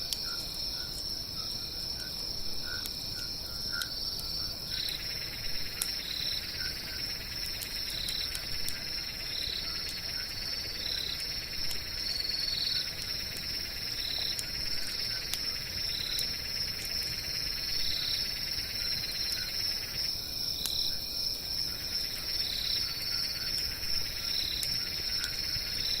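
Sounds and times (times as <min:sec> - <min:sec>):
campfire popping and crackling: 0:00.0 - 0:26.0
crickets trilling: 0:00.0 - 0:26.0.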